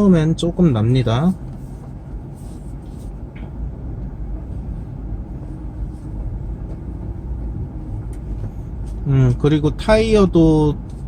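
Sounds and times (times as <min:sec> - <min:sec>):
car driving slowly: 0:00.0 - 0:11.0.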